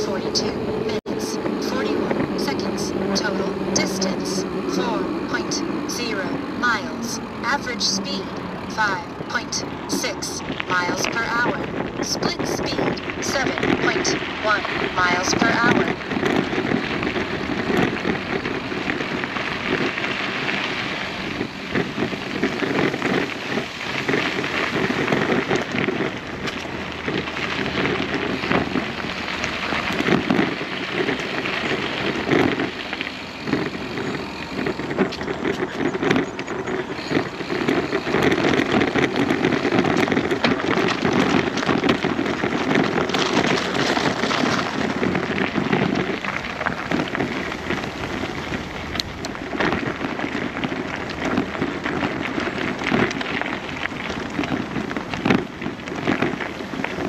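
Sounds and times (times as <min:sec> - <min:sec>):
running footsteps on gravel: 0:00.0 - 0:57.0.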